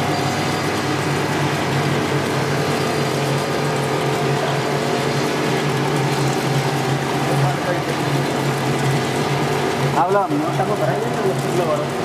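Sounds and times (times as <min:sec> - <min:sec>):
machinery drone with hum and hiss: 0:00.0 - 0:12.0.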